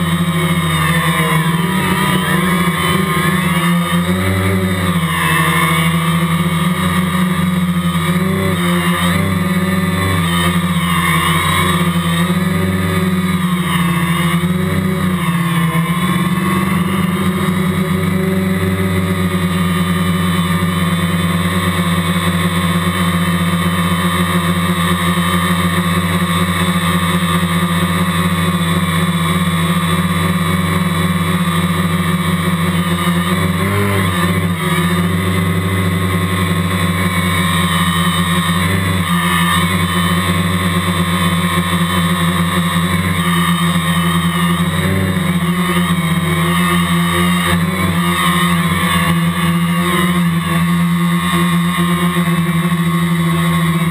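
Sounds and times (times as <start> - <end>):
quadcopter motors whining: 0.0 - 53.9.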